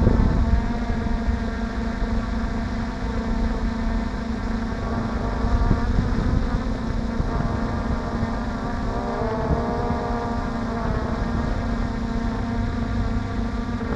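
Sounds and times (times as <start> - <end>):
drone propellers buzzing: 0.0 - 13.9
wind rumble on microphone: 0.0 - 13.9.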